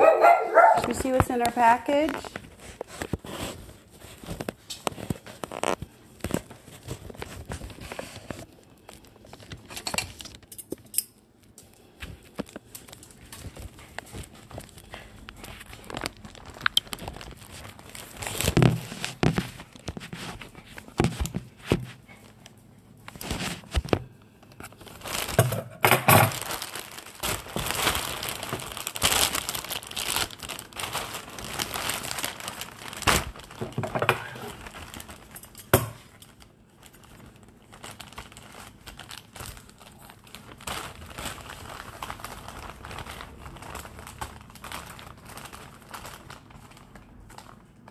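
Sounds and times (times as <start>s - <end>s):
plastic bag crinkling: 0.0s - 47.9s.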